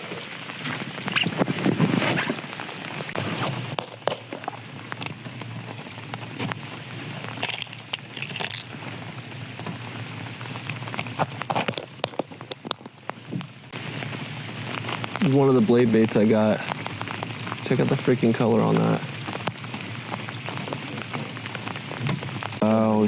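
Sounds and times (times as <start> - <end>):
sharp clicks and crinkles: 0.0 - 15.5, 16.5 - 22.6
rain pattering on surfaces: 0.0 - 23.0.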